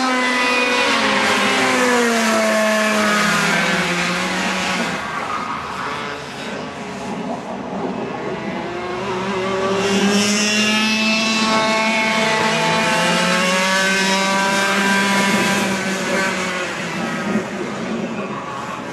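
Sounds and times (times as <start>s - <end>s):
kart engine at full throttle: 0.0s - 6.7s, 7.6s - 18.9s.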